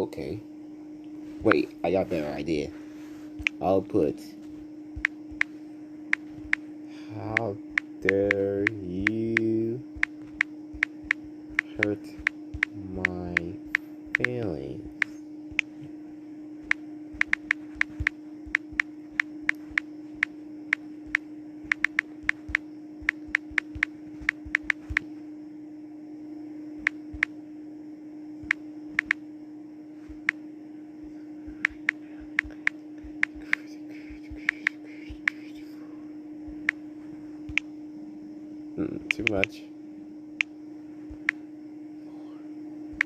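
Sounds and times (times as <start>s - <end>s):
steady hum: 0.0s - 43.0s.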